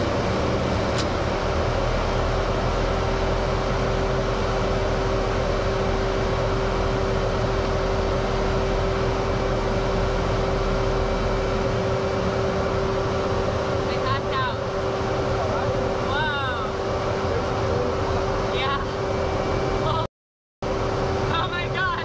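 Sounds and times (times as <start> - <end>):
jet engines and rushing air: 0.0 - 20.0, 20.6 - 22.0
steady hum: 0.0 - 22.0.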